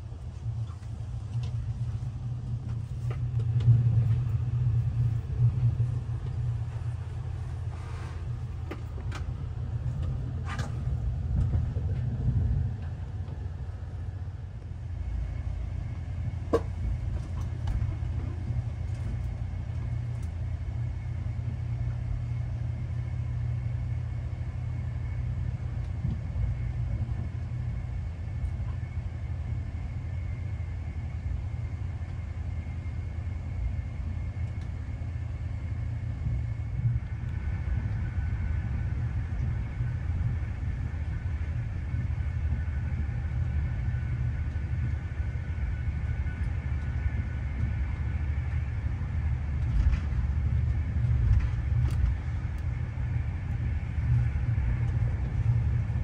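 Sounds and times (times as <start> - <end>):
train rumble from inside carriage: 0.0 - 56.0.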